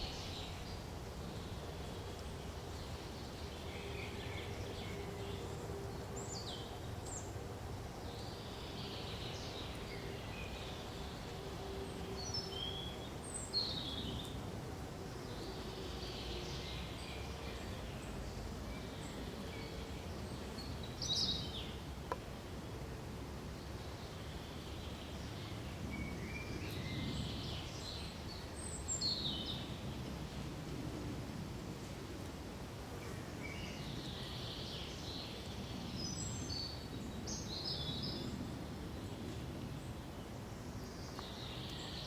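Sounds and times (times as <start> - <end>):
low background hiss: 0.0 - 42.0.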